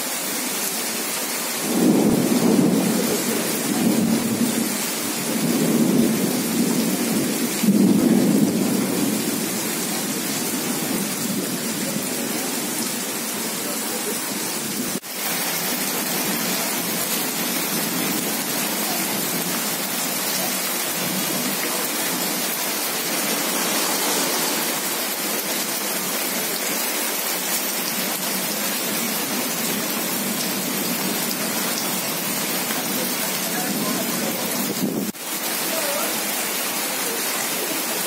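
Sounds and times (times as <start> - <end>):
rain falling on puddles: 0.0 - 38.0.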